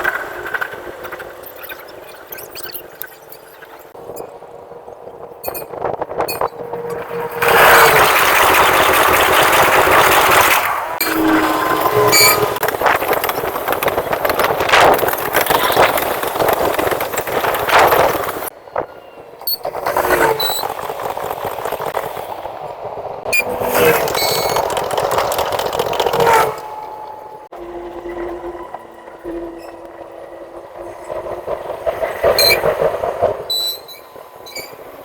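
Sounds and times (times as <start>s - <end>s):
wheel-on-rail rushing noise: 0.0s - 35.0s
train passing at speed: 3.9s - 35.0s.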